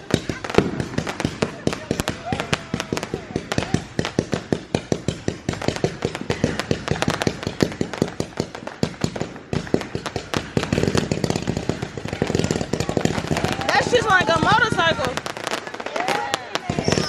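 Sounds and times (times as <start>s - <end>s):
firecrackers cracking: 0.0s - 17.0s.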